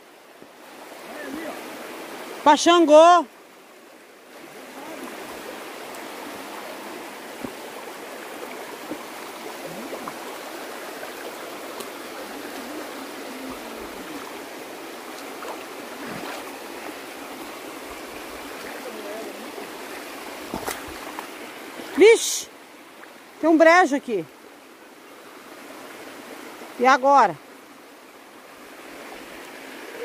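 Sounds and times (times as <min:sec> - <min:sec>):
stream rushing over stones: 0:00.0 - 0:30.0.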